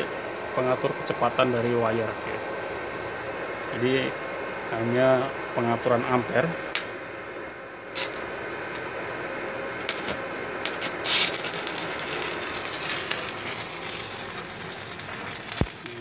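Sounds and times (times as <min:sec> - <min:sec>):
welder cooling fan humming: 0:00.0 - 0:16.0.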